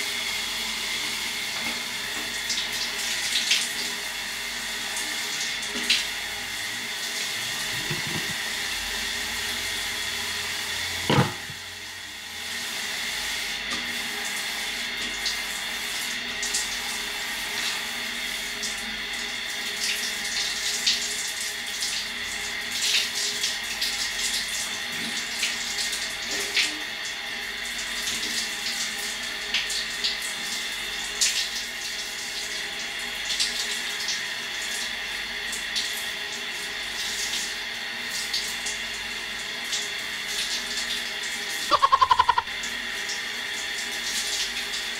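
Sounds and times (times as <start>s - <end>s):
shower water running: 0.0s - 44.9s.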